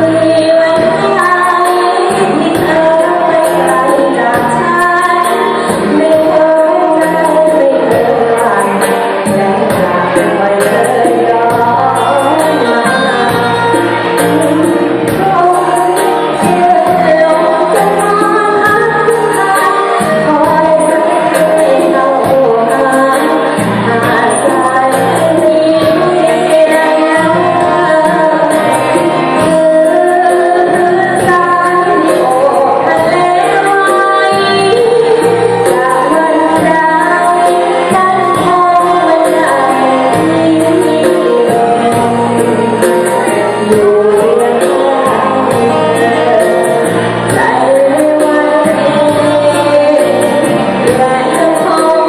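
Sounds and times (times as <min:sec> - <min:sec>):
music with steady beat: 0:00.0 - 0:52.0
person singing: 0:00.0 - 0:52.0.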